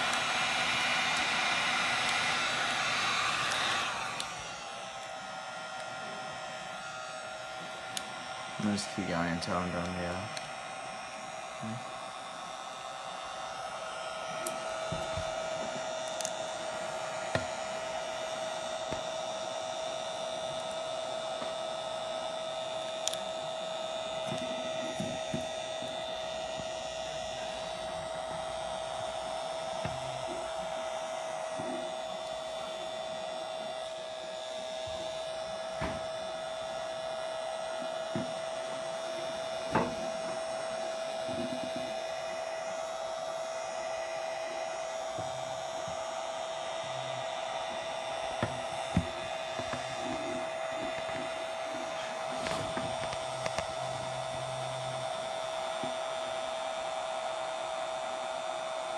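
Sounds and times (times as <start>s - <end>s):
heat gun motor whine: 0.0s - 58.9s.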